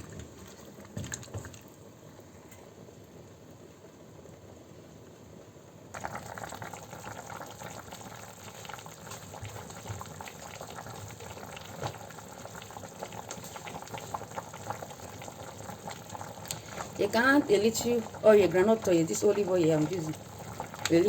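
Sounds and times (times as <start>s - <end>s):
pot bubbling and popping: 0.0s - 2.7s, 5.9s - 21.0s.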